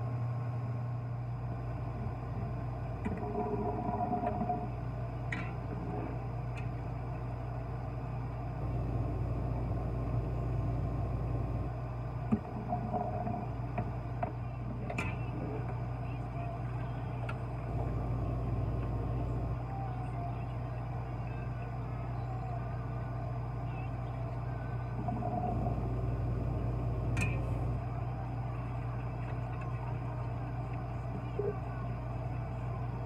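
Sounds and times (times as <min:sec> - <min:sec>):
faint high-pitched whine: 0:00.0 - 0:33.0
low machine hum: 0:00.0 - 0:33.0.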